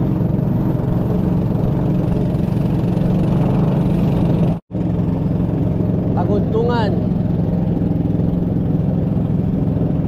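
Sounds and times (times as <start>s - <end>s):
boat engine running: 0.0s - 10.0s
water rushing along hull: 0.0s - 10.0s.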